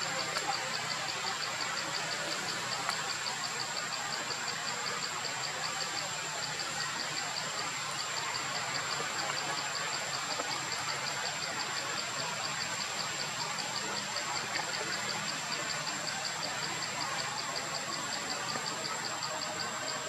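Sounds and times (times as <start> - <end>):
constant hiss: 0.0 - 20.0.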